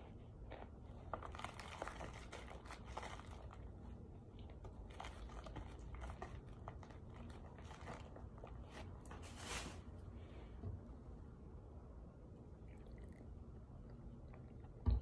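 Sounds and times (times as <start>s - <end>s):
faint crunching and chewing: 0.0s - 9.7s, 12.3s - 14.9s.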